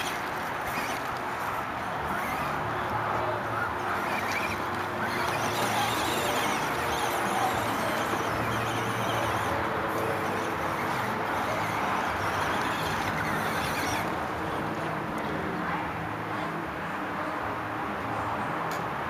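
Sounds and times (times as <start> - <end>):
radio-controlled truck motor running: 0.0 - 15.6.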